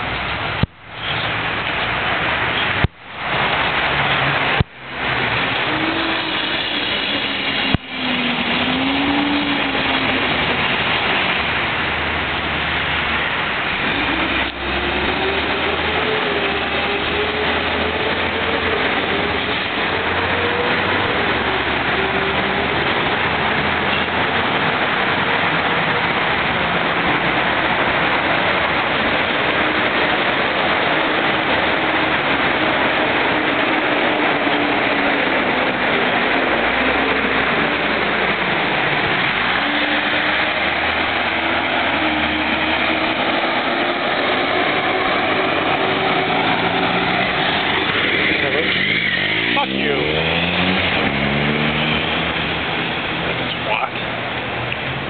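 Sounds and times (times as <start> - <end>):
engine drone: 0.0 - 55.0
passing vehicles: 0.0 - 55.0.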